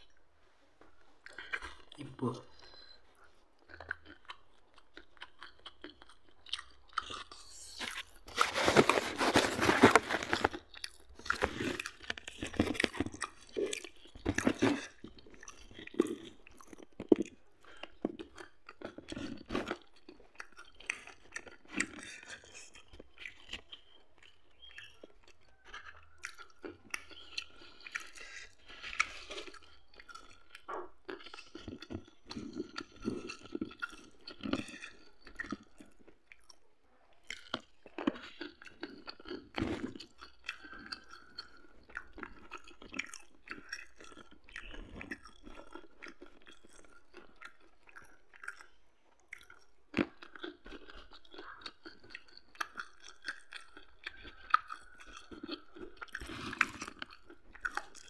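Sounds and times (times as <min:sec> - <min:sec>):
chewing food: 0:00.0 - 0:58.0
mouth and teeth clicks: 0:03.6 - 0:58.0.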